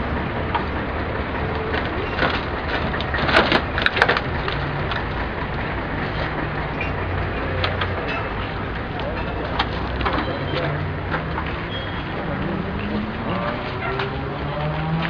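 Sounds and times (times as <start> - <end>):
street noise with low hum: 0.0 - 15.0
knocks and clanks: 1.5 - 15.0.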